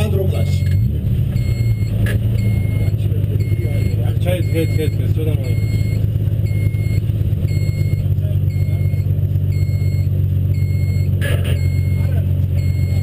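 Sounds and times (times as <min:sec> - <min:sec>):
race car engine idling: 0:00.0 - 0:13.0
faint high beep: 0:00.3 - 0:13.0.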